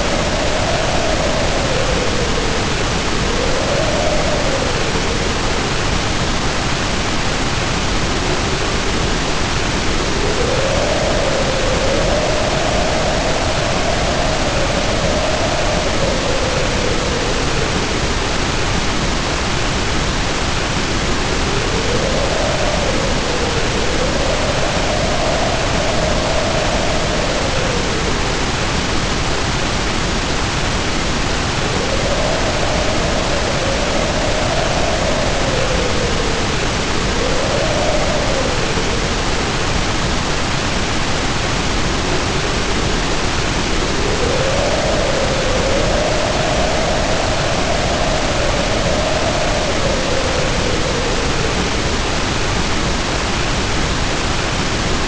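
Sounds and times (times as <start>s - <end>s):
heavy rain pouring: 0.0s - 55.0s
wind howling: 0.0s - 55.0s.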